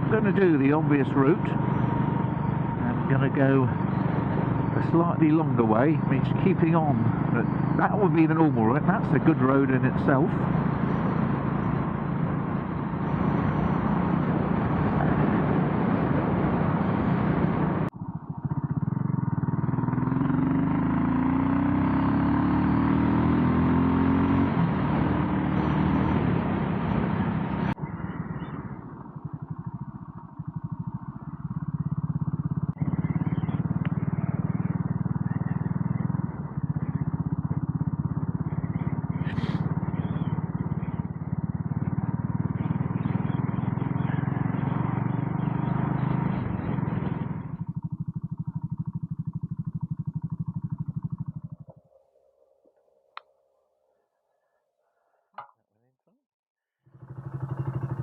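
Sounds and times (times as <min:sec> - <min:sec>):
motorcycle engine running: 0:00.0 - 0:52.3, 0:56.8 - 0:58.0.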